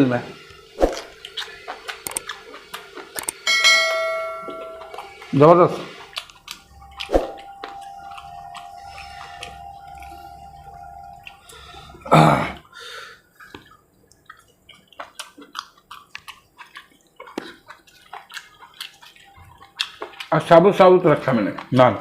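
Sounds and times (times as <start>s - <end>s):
steady low hum: 0.0s - 22.0s
wet chewing and lip-smacking: 0.9s - 3.4s, 4.6s - 12.0s, 12.6s - 22.0s.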